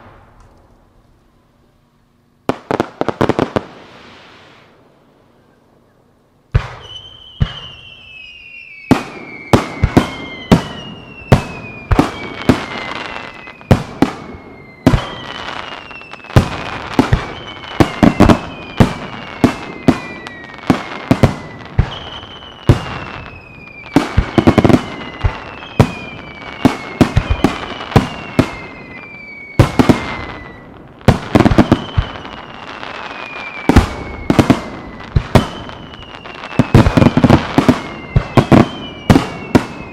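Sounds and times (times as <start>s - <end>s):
firework whistles: 2.5s - 39.9s.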